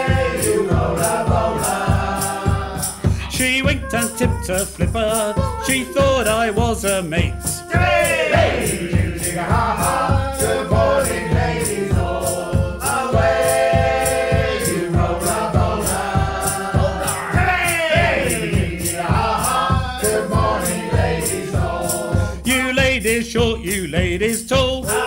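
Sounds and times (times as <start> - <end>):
group of people singing: 0.0 - 4.8, 5.6 - 23.9, 24.8 - 25.0
steady percussive beat: 0.0 - 25.0.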